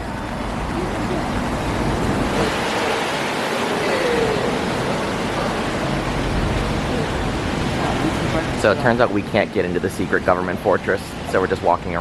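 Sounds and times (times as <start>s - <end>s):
faint voices: 0.0s - 11.6s
busy city street noise: 0.0s - 12.0s.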